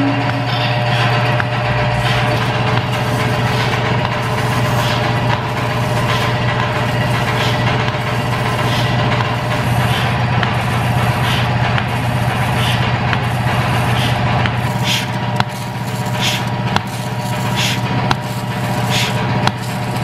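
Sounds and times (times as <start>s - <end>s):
pulsator rhythmic hiss: 0.0s - 20.0s
vacuum pump humming: 0.0s - 20.0s.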